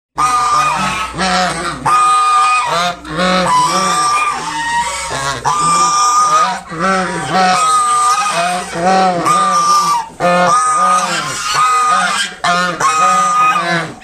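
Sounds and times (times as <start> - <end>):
swan honking: 0.2 - 14.0.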